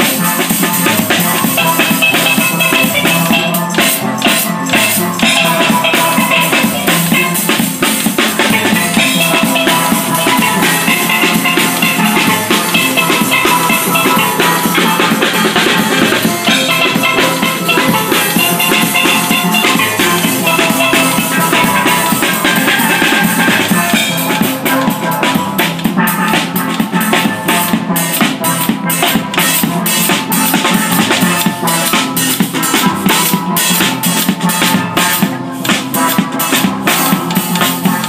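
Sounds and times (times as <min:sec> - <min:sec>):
drum beat: 0:00.0 - 0:38.0
steel pans ringing: 0:00.0 - 0:38.0.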